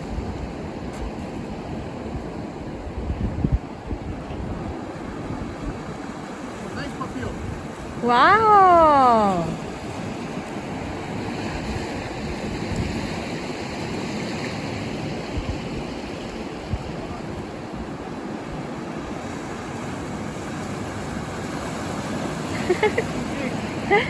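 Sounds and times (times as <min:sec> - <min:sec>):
waves rushing on shore: 0:00.0 - 0:24.0
wind on microphone: 0:00.0 - 0:24.0.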